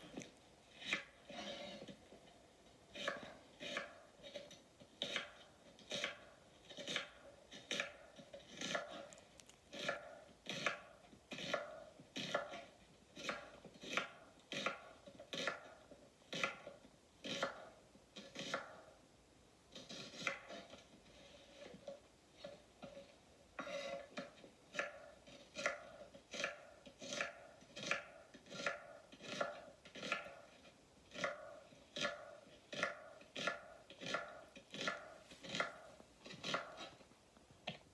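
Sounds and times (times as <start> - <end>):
knife slicing onion on board: 0.0 - 2.0, 2.9 - 9.1, 9.7 - 19.0, 19.7 - 21.8, 23.6 - 37.0.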